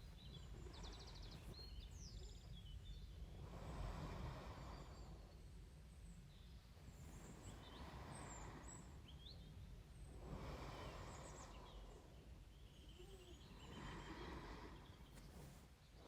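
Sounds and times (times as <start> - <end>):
faint bird chirps: 0.0 - 16.0
slow soft breathing: 0.0 - 16.0.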